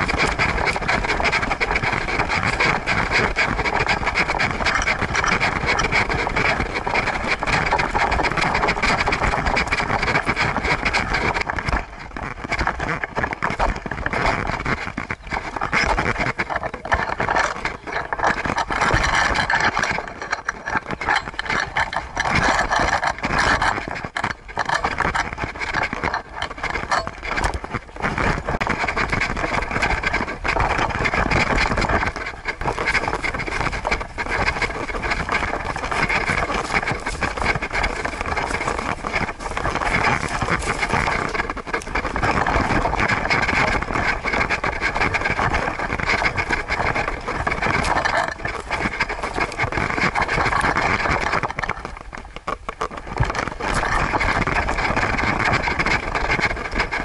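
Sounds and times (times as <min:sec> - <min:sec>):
camera housing rubbing and scraping: 0:00.0 - 0:57.0
wind on microphone: 0:00.0 - 0:57.0.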